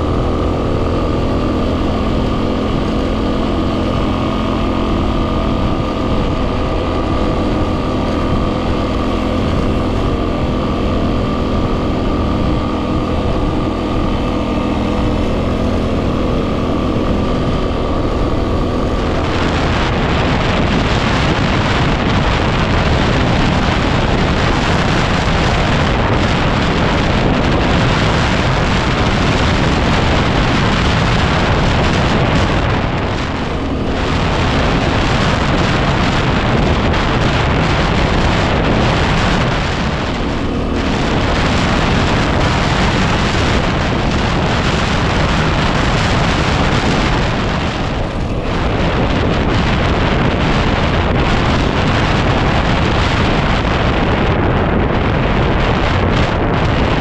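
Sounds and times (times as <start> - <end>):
motorcycle engine: 0.0 - 57.0
wind buffeting microphone: 0.0 - 57.0.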